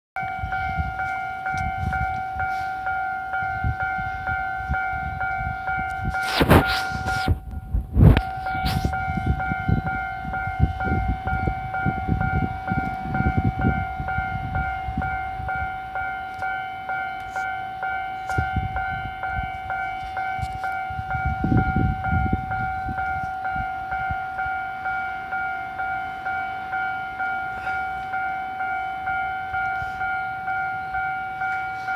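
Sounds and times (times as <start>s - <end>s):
railway warning signal tone: 0.2s - 31.9s.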